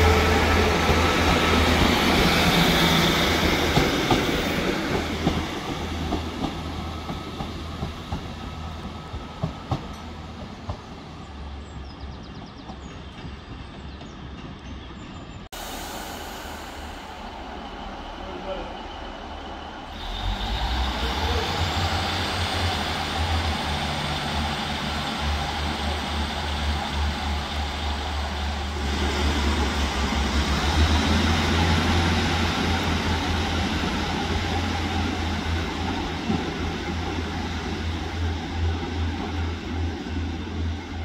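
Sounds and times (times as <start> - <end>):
diesel train engines humming: 0.0 - 41.0.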